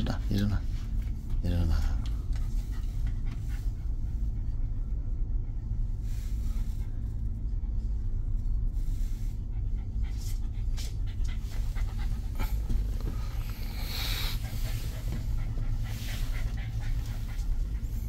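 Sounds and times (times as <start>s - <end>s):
dog panting: 0.0s - 18.0s
low engine drone: 0.0s - 18.0s.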